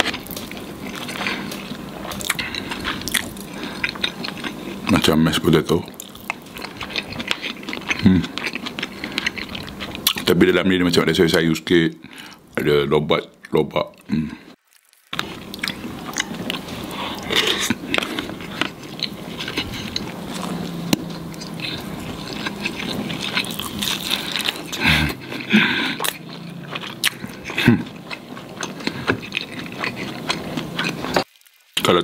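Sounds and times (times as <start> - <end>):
chewing and biting food: 0.0 - 10.3, 13.3 - 31.9.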